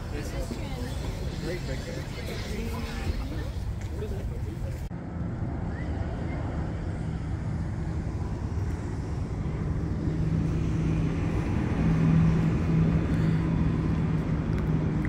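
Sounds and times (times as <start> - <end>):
engine hum: 0.0 - 15.0
road traffic rumble: 0.0 - 15.0.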